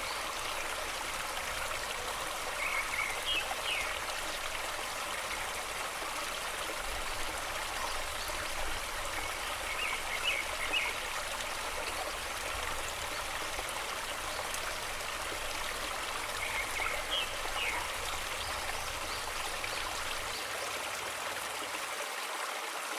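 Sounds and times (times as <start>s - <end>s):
stream flowing: 0.0s - 22.9s.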